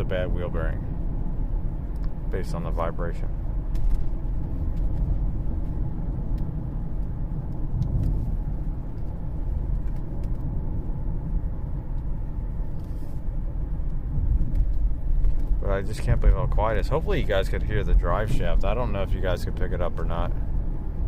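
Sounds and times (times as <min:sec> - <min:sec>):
car road and driveline rumble: 0:00.0 - 0:21.0.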